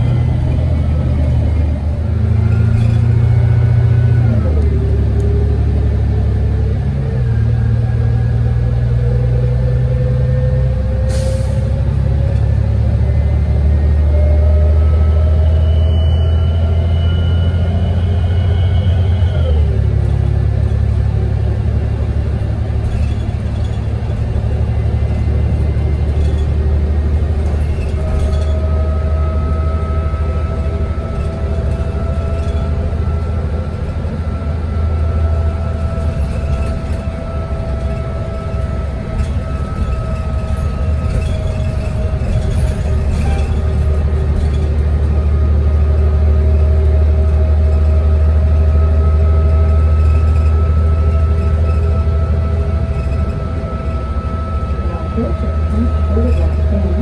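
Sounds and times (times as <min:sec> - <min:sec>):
bus engine rumble and whine: 0:00.0 - 0:57.0.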